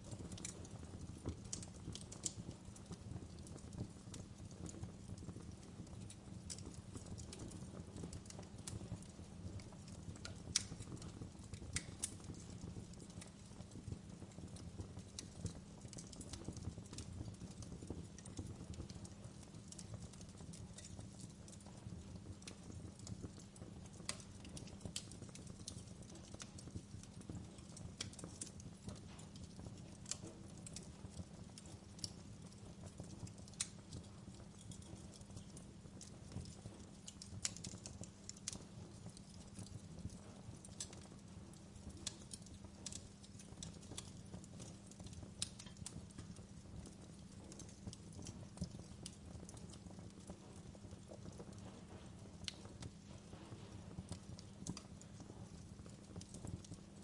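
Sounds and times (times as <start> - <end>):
burning wood popping and snapping: 0.0 - 57.0
low rumble of flames: 0.0 - 57.0.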